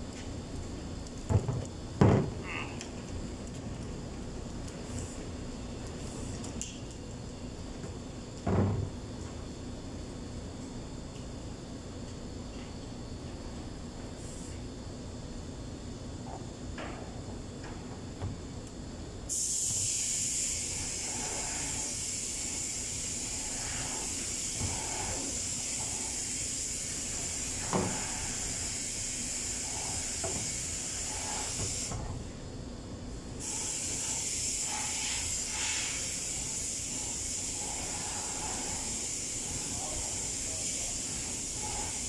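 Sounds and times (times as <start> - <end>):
steady high-pitched hiss: 0.0 - 42.0.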